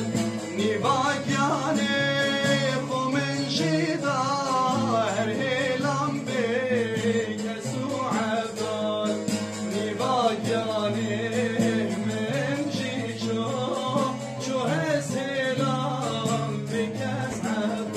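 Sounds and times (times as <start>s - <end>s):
man singing folk melody: 0.0s - 17.9s
saz strumming: 0.0s - 17.9s.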